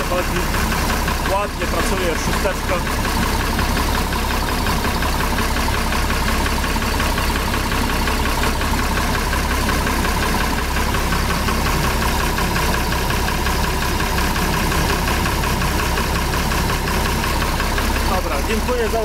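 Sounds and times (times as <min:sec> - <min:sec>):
combine engine running steadily: 0:00.0 - 0:19.0.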